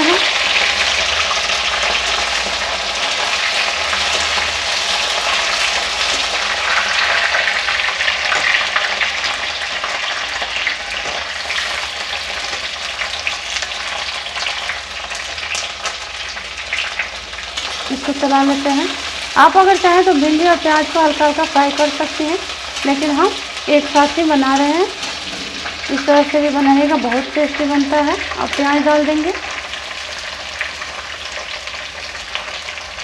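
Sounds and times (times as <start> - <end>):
okra sizzling in hot oil: 0.0 - 33.0.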